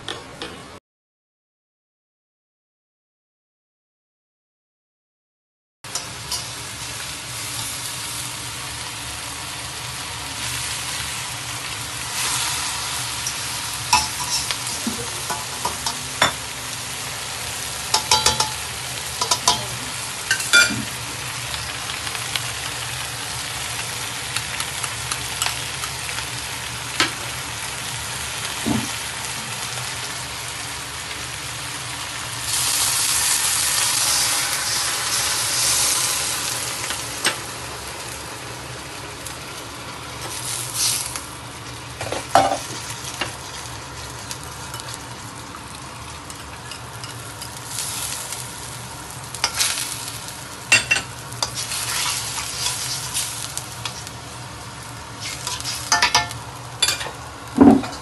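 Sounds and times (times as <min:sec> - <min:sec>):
food sizzling in a wok: 0:05.9 - 0:58.0.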